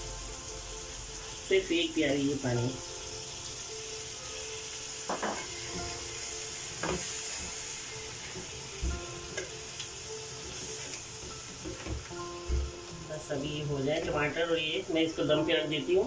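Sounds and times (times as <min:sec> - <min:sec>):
sauce sizzling in a pan: 0:00.0 - 0:16.0.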